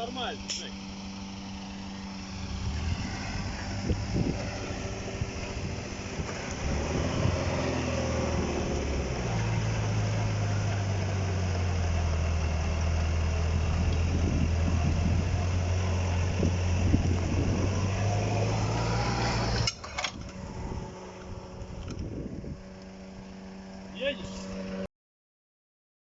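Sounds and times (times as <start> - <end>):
off-road vehicle engine revving: 0.0 - 24.9.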